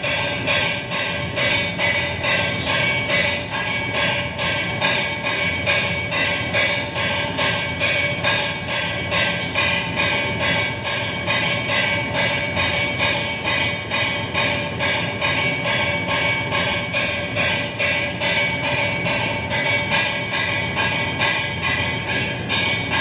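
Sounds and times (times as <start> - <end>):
ringing metallic banging: 0.0 - 23.0.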